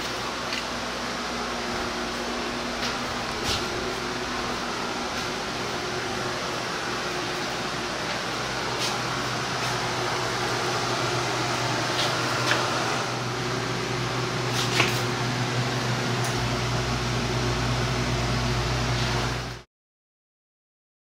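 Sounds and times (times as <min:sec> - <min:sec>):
ventilation machinery humming: 0:00.0 - 0:19.6.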